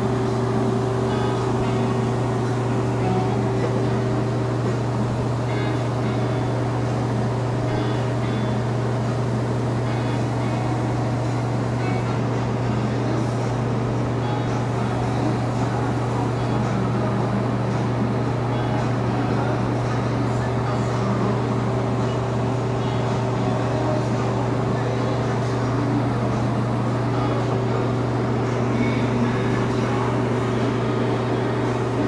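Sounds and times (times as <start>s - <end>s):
motor hum with low drone: 0.0s - 32.0s.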